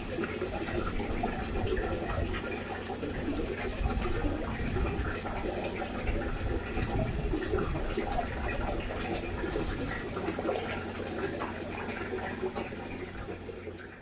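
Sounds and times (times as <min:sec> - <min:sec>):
fish splashing and slurping: 0:00.0 - 0:14.0
steady water noise: 0:00.0 - 0:14.0.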